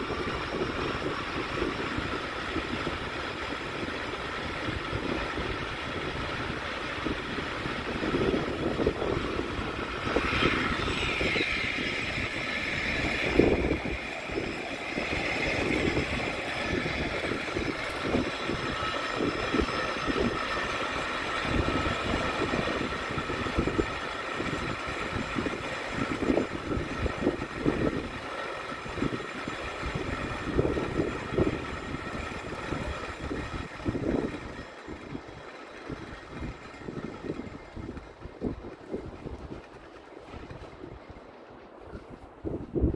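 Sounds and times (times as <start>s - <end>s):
high whine: 0.0s - 34.6s
railway car rumbling on rails: 0.0s - 42.9s.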